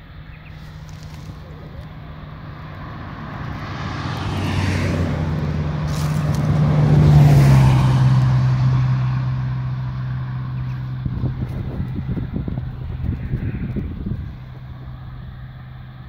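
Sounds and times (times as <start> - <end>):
vehicle driving past: 0.1 - 16.0.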